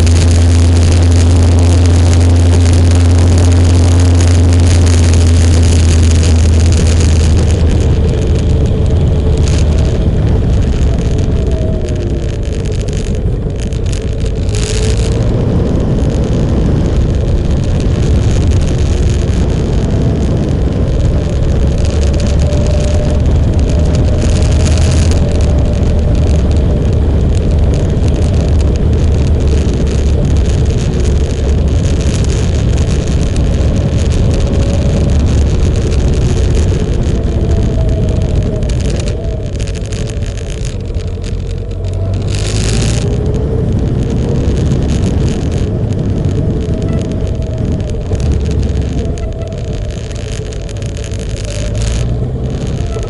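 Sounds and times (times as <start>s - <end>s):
motorcycle engine running: 0.0s - 53.0s
wind rushing: 0.0s - 53.0s.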